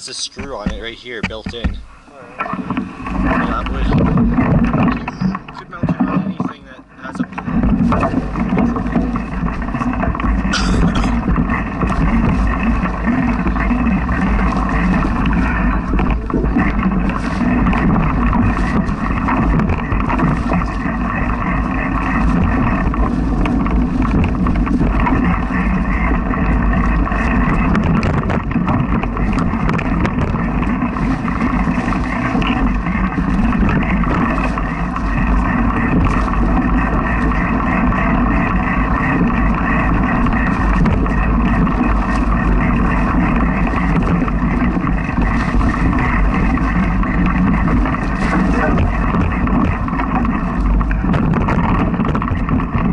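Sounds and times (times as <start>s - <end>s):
bike tyres rumbling on dirt trail: 0.0s - 52.9s
small rattles and clicks: 0.0s - 52.9s
wind on microphone: 0.0s - 52.9s.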